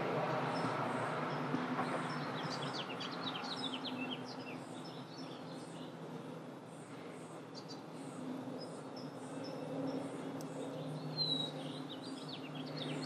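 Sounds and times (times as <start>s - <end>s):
small birds chirping: 0.4s - 13.0s.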